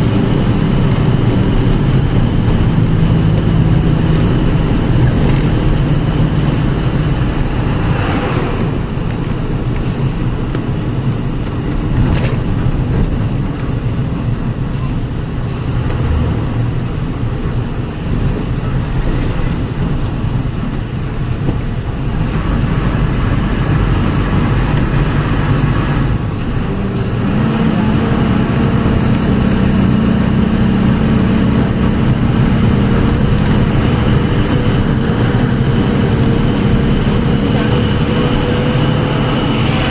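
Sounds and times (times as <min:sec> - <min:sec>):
vehicle engine drone: 0:00.0 - 0:39.9.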